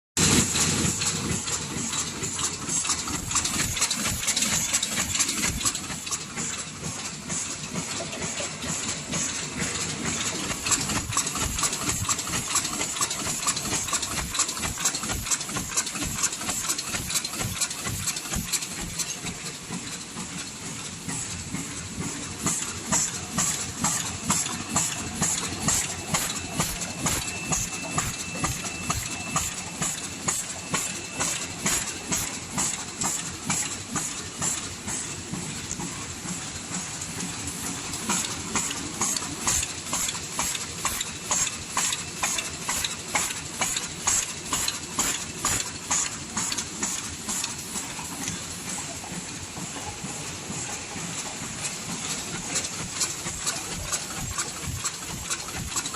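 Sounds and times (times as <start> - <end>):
machine rhythmic mechanical clatter: 0.2 - 55.9
steady machine hiss: 0.3 - 55.9.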